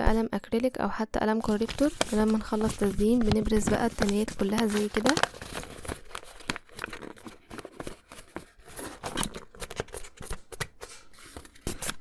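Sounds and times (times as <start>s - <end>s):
paper rustling and crinkling: 1.4s - 12.0s.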